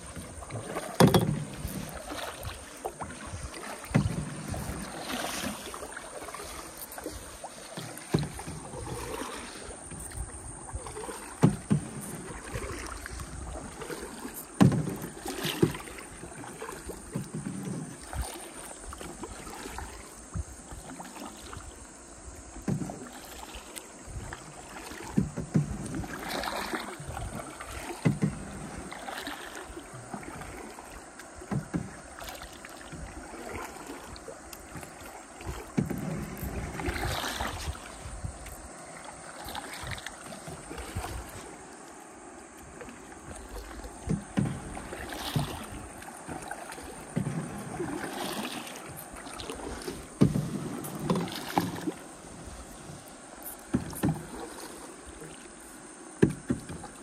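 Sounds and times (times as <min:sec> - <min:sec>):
paddles splashing in river water: 0:00.0 - 0:57.0.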